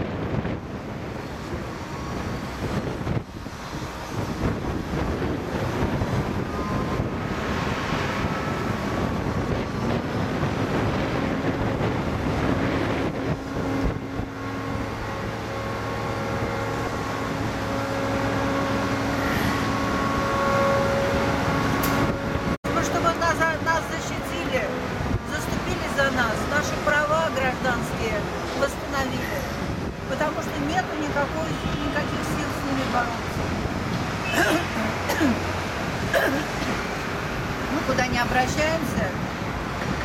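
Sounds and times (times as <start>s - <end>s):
busy street traffic noise: 0.0s - 40.0s.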